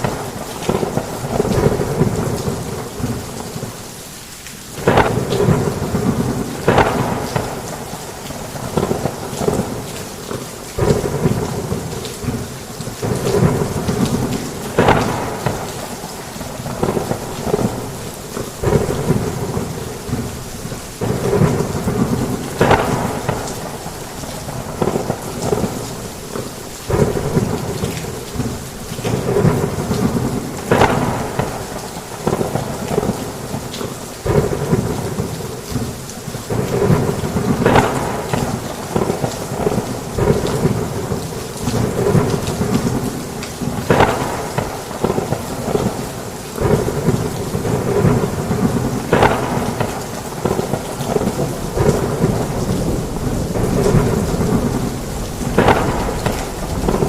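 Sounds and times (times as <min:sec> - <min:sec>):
heavy rain falling: 0:00.0 - 0:57.0
thunder rumbling: 0:04.8 - 0:57.0.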